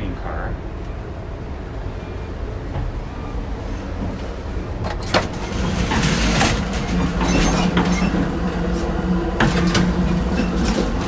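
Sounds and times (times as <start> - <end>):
train rattles and clanks: 0.0 - 11.0
train rumbling: 0.0 - 11.0.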